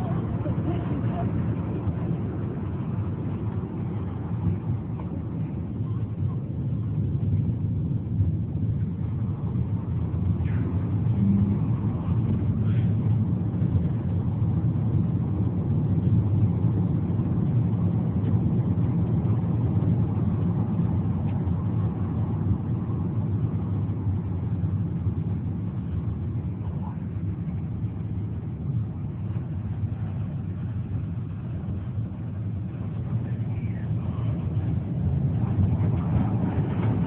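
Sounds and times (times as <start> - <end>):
car cabin road and engine rumble: 0.0 - 37.0.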